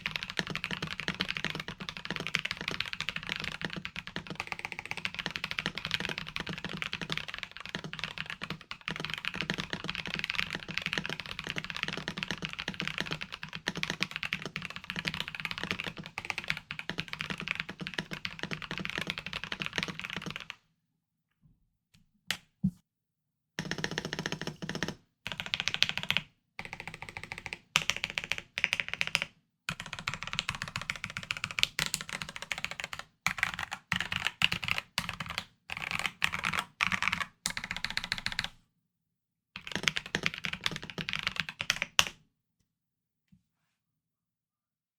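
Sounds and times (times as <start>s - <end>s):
mechanical keyboard typing: 0.0s - 20.5s, 23.6s - 38.5s, 39.6s - 42.1s.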